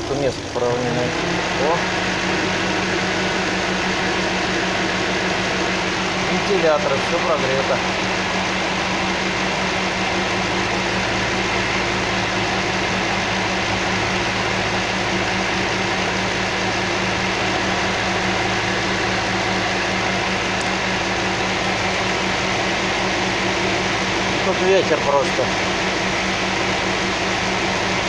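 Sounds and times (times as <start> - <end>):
car engine idling: 0.0 - 28.0
radiator fans blowing air: 0.0 - 28.0.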